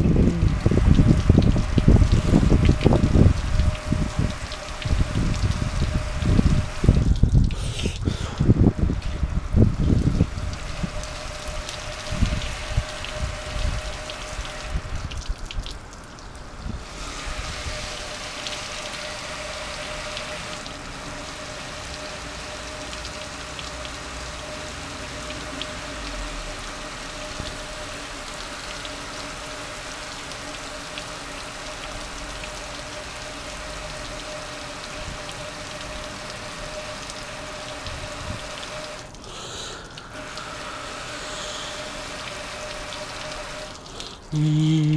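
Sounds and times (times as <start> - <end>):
water spraying on metal grill: 0.0 - 44.9.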